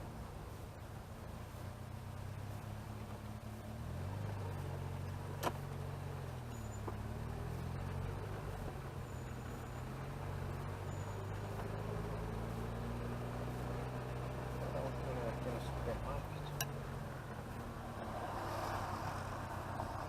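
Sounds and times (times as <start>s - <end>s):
car engine running while driving: 0.0s - 20.0s.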